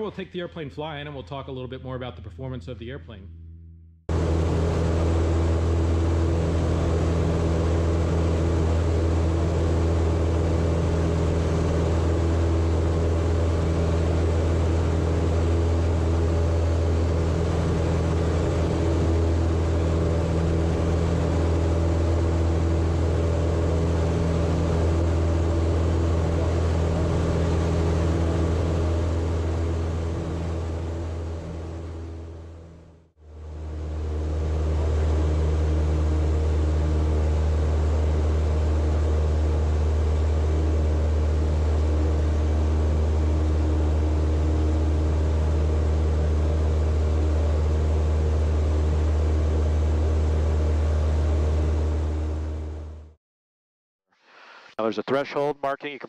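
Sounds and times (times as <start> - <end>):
propeller plane engine drone: 0.0 - 53.2.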